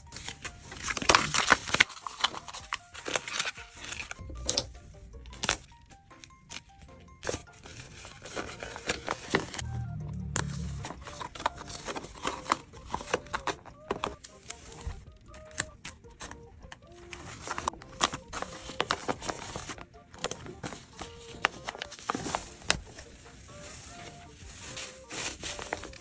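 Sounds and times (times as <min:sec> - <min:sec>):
paper crinkling and rustling: 0:00.0 - 0:04.6, 0:05.3 - 0:09.6, 0:10.8 - 0:26.0.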